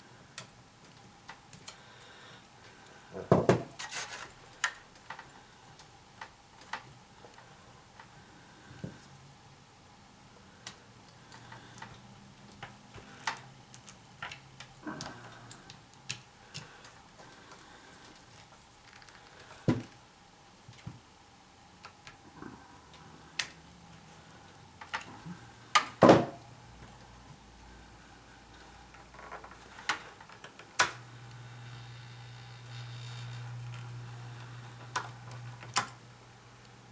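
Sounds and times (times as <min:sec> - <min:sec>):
humidifier fan motor hum: 0:00.0 - 0:36.9.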